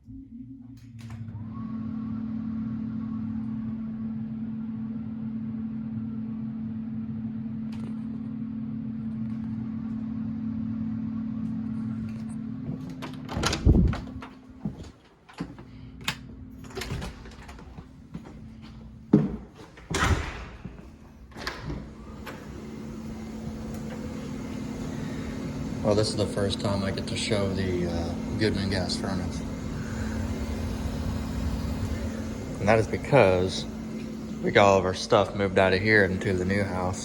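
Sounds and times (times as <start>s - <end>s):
furnace blower humming: 0.8s - 37.0s.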